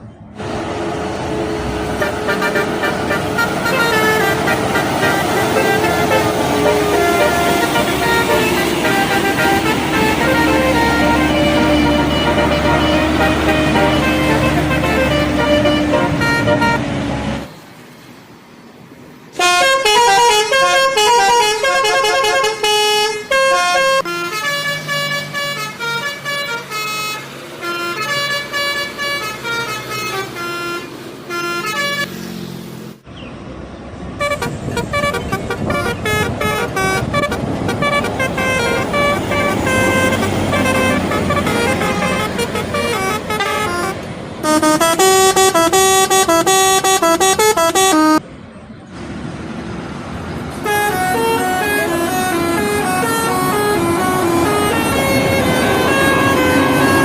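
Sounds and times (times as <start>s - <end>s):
engine rumble: 0.0s - 57.0s
street noise: 0.0s - 57.0s
multi-tone bus horns playing tunes: 0.4s - 17.5s, 19.3s - 32.2s, 34.2s - 48.2s, 50.6s - 57.0s.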